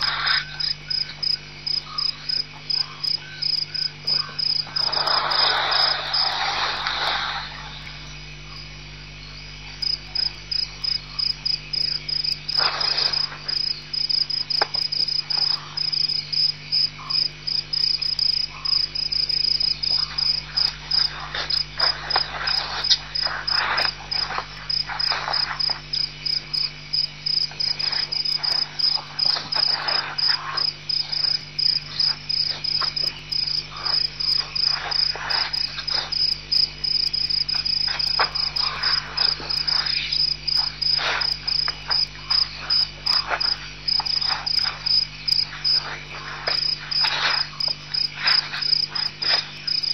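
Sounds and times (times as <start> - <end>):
crickets chirping: 0.0 - 49.9
low electrical hum: 0.0 - 49.9.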